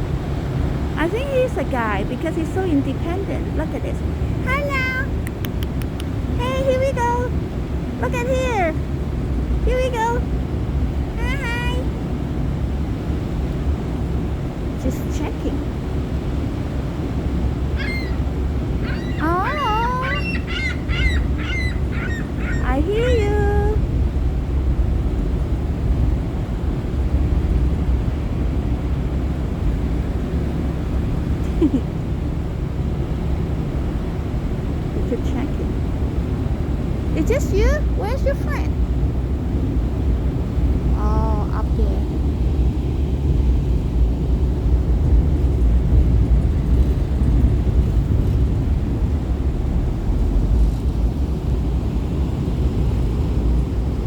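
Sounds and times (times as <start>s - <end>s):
ferry engine rumble: 0.0s - 54.0s
wind buffeting microphone: 0.0s - 54.0s.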